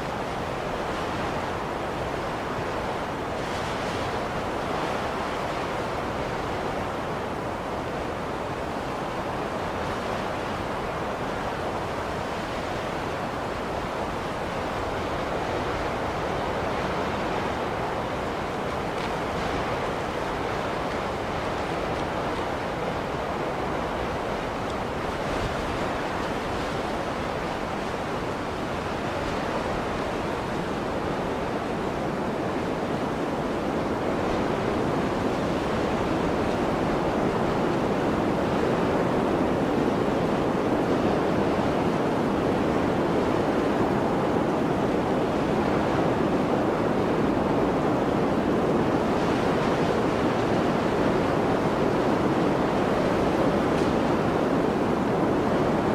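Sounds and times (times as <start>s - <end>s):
blizzard wind rushing: 0.0s - 55.9s.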